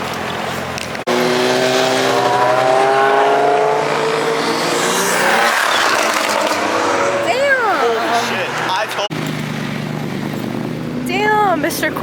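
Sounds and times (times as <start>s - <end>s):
car engine accelerating: 0.0s - 12.0s
rushing road noise: 0.0s - 12.0s.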